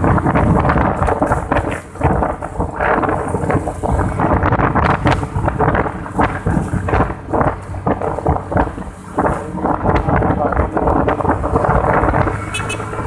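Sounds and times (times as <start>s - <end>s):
scooter engine humming: 0.0s - 13.0s
wind buffeting microphone: 0.0s - 13.0s.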